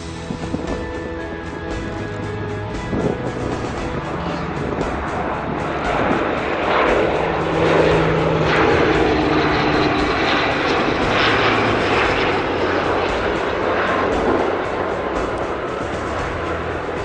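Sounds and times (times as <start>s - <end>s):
faint steady drone: 0.0s - 17.0s
loud aircraft engine: 0.0s - 17.0s.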